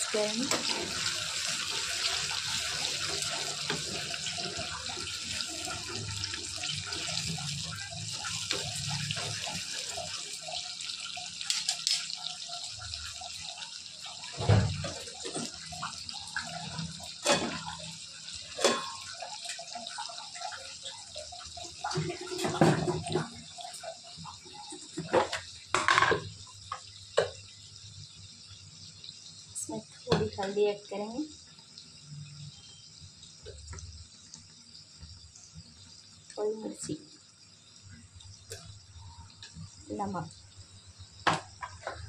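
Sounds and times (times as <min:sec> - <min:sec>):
spices sizzling in a pan: 0:00.0 - 0:42.0.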